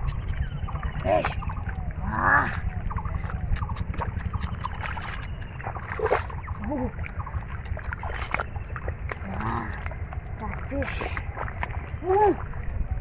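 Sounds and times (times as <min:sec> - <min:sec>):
steady low rumble: 0:00.0 - 0:13.0
hands splashing in muddy water: 0:01.0 - 0:12.6.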